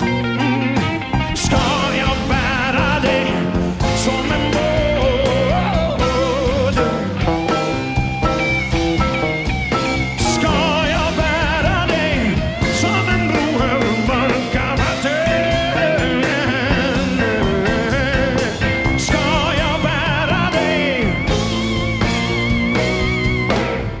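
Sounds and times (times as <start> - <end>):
live rock band playing ballad: 0.0 - 24.0.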